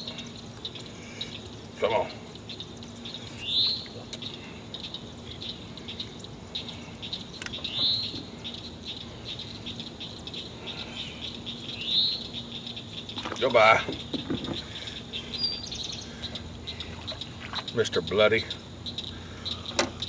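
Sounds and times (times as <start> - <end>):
faint high insect chirping: 0.0 - 20.0.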